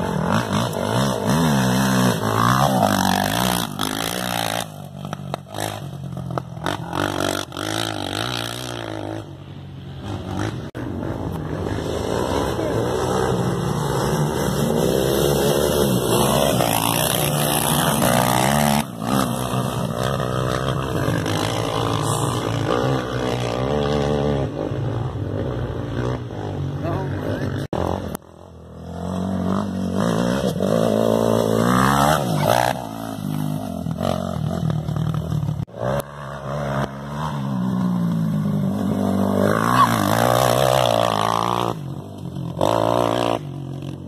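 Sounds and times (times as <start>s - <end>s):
quad engines revving: 0.0s - 44.0s.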